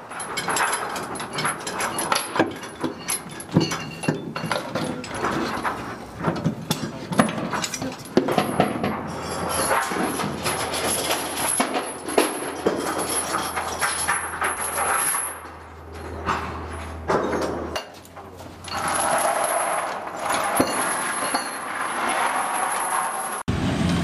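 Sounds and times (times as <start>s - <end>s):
metal chains and shackles clanking: 0.0s - 23.4s.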